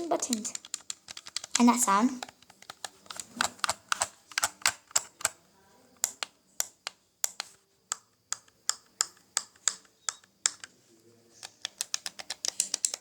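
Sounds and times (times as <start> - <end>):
game controller buttons clicking: 0.2 - 5.4, 6.0 - 10.7, 11.4 - 13.0.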